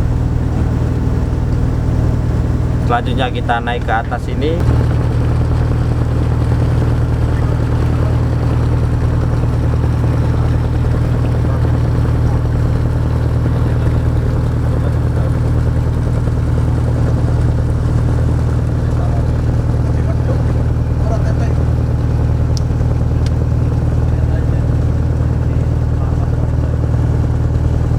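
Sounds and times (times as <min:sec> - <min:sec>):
boat engine droning: 0:00.0 - 0:27.9.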